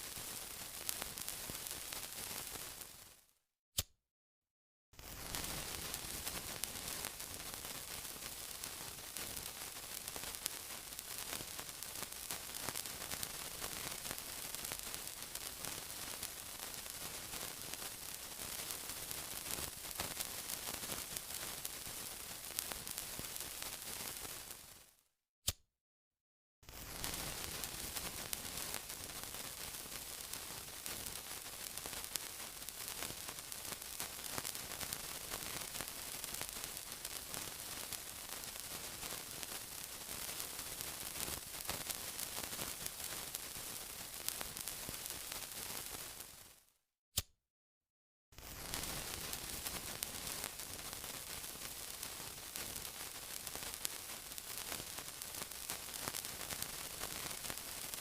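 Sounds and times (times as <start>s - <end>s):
crackling sizzling hiss: 0.0s - 3.3s, 5.0s - 25.0s, 26.6s - 46.7s, 48.4s - 58.0s.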